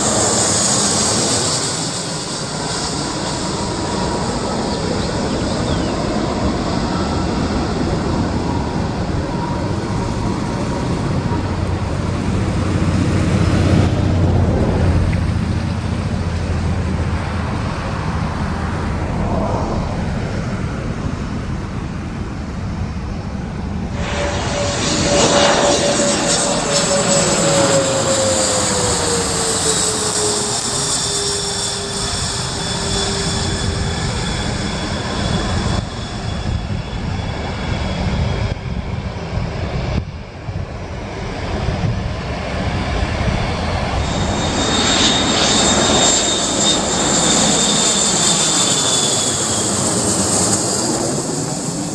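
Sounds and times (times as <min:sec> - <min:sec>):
aircraft engine whine passing: 0:00.0 - 0:51.9
airliner engines rumbling: 0:00.0 - 0:51.9.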